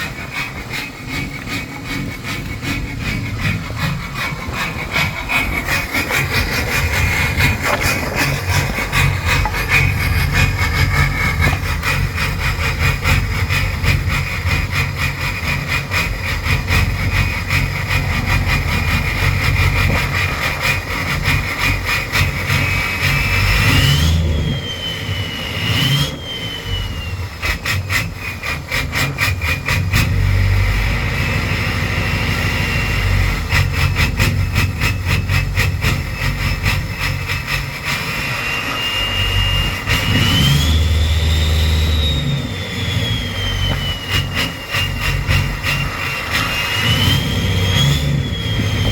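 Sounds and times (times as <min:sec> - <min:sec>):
diesel engine rough idle: 0:00.0 - 0:48.9
high turbo whine: 0:00.0 - 0:48.9.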